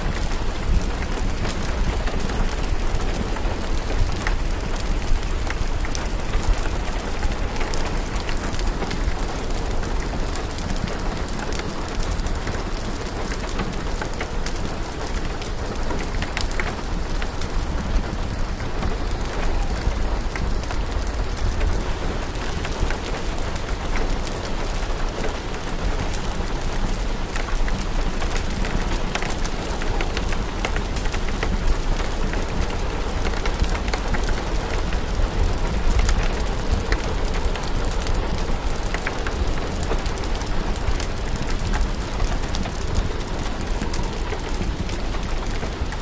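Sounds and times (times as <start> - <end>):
crackling fire: 0.0 - 46.0
steady rain: 0.0 - 46.0.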